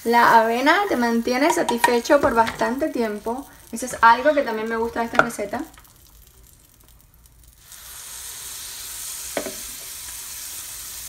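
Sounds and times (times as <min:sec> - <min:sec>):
batter sizzling in a frying pan: 0:00.0 - 0:11.0.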